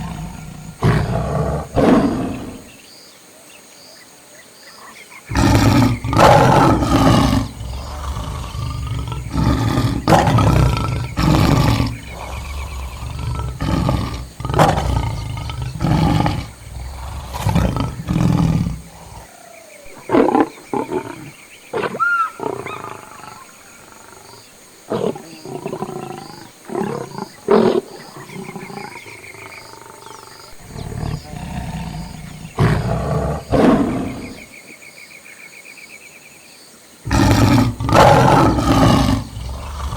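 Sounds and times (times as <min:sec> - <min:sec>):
lions growling and roaring: 0:00.0 - 0:02.8, 0:05.3 - 0:34.5, 0:37.1 - 0:39.9.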